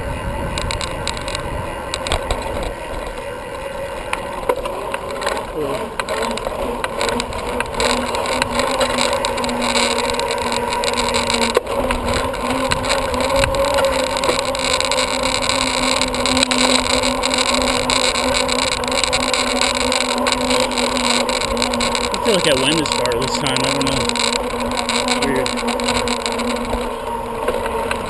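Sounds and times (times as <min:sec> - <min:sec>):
bicycle rolling: 0:00.0 - 0:28.0.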